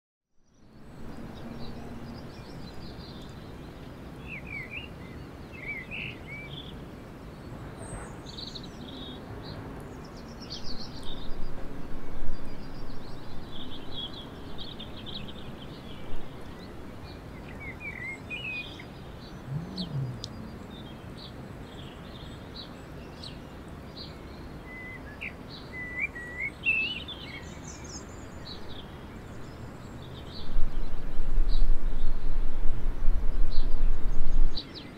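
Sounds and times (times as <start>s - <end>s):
low rush of background noise: 0.4s - 34.9s
small birds chirping and trilling: 0.4s - 34.9s.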